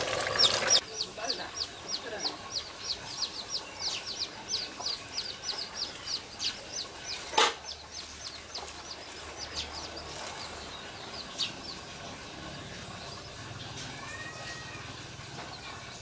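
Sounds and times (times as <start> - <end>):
birds peeping: 0.0 - 16.0.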